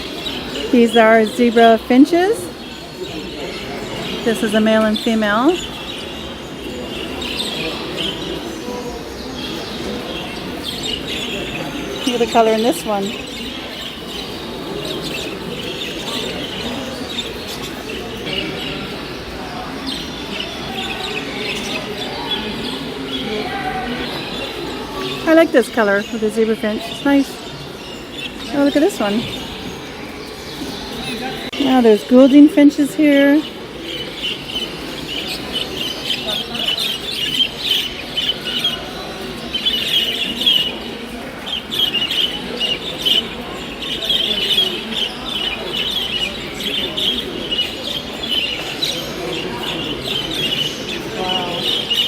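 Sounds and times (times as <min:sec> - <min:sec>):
finches chirping: 0:00.0 - 0:52.0
murmur of people talking: 0:00.0 - 0:52.0.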